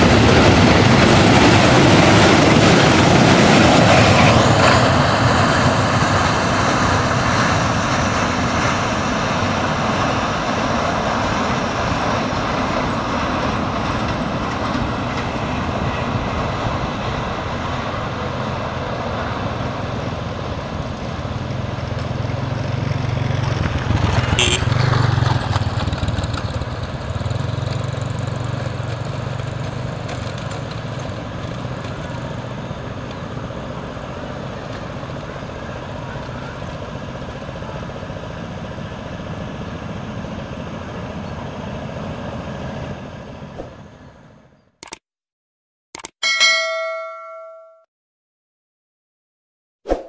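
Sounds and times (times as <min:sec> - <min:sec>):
diesel train engine drone: 0:00.0 - 0:44.6.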